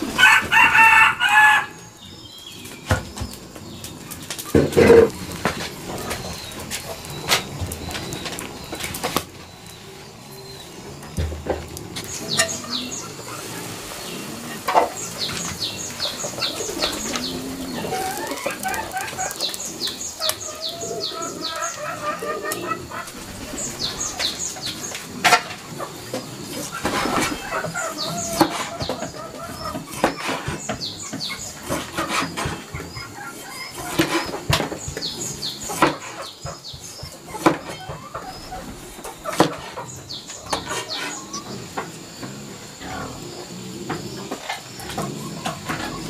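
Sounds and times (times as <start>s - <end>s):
clucking calls: 0.0s - 2.0s, 2.6s - 46.0s
birds chirping: 0.0s - 46.0s.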